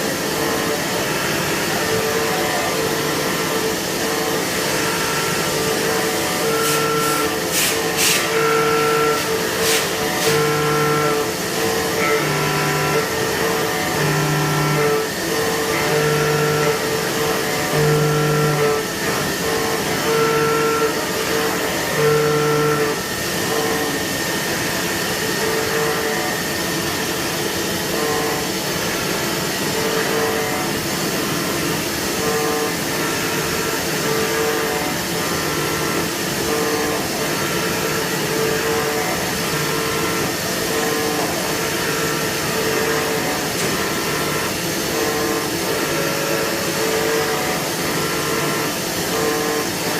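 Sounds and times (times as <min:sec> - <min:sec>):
milling machine cutting metal: 0:00.0 - 0:49.9.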